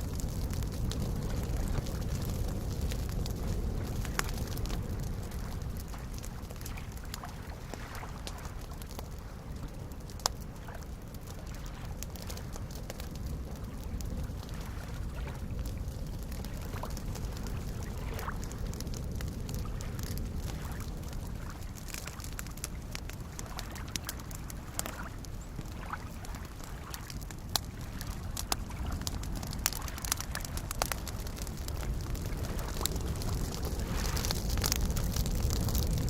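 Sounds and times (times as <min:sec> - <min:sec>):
campfire crackling and popping: 0:00.0 - 0:36.0
lake waves lapping: 0:01.3 - 0:08.8, 0:10.5 - 0:18.7, 0:19.6 - 0:35.6.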